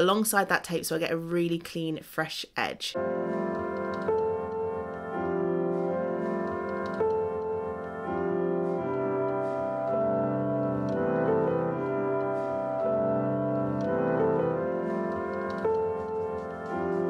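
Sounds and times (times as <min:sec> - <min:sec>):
held music chords: 0:03.0 - 0:17.0.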